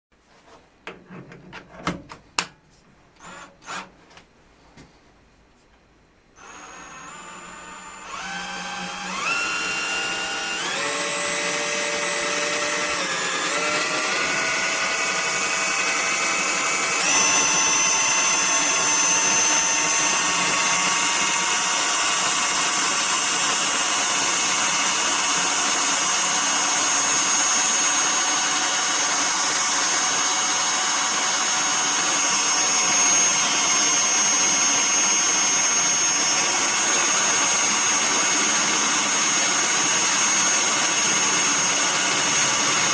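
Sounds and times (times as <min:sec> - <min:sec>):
lathe spindle motor whining: 0:06.4 - 0:42.9.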